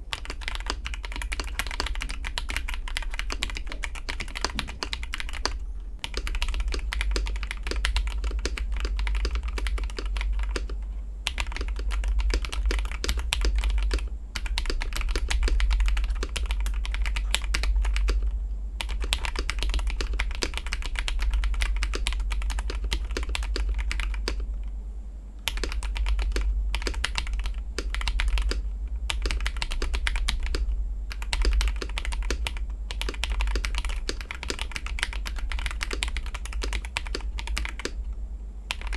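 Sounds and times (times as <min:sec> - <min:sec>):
mechanical keyboard typing: 0:00.0 - 0:24.5, 0:25.4 - 0:38.1, 0:38.7 - 0:38.9
steady low hum: 0:00.0 - 0:38.9.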